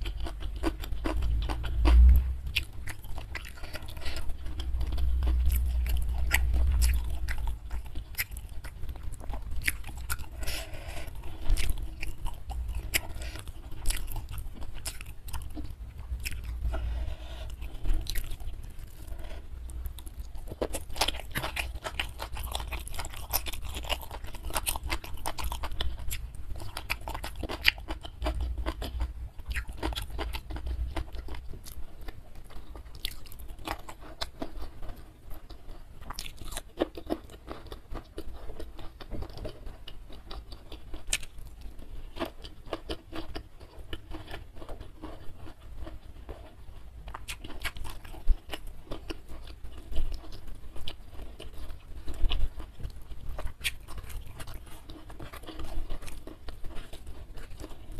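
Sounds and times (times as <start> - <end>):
person chewing and crunching: 0.0 - 57.9.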